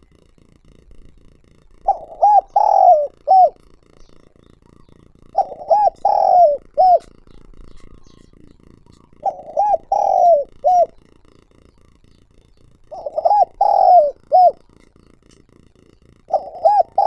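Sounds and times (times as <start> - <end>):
dove cooing: 1.8 - 17.0.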